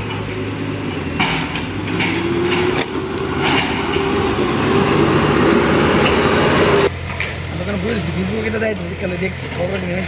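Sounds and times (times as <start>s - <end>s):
diesel engine working with whine: 0.0s - 10.0s.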